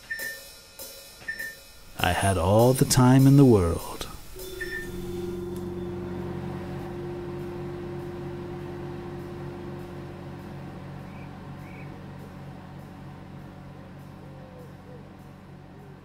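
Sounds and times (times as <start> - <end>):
microwave oven humming: 1.3 - 16.0.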